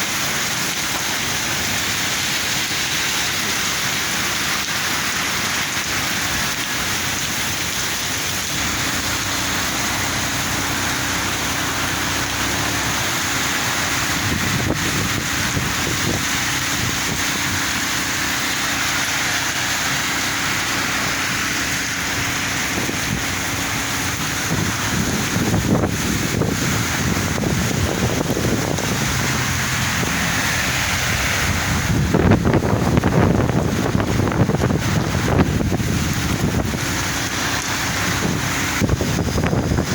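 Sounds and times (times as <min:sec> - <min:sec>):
heavy rain pouring on street: 0:00.0 - 0:39.9
low engine hum: 0:00.0 - 0:39.9
loud low rumble: 0:07.9 - 0:39.9.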